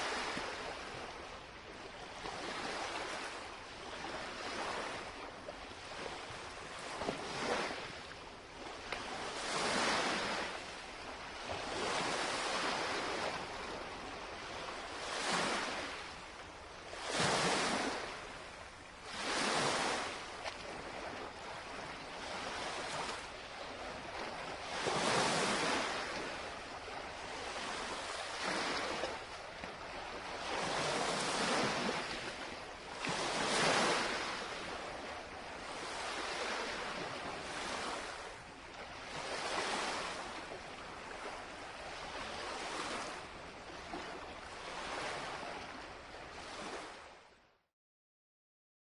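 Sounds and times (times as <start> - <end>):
lake waves lapping on shore: 0.0 - 47.4.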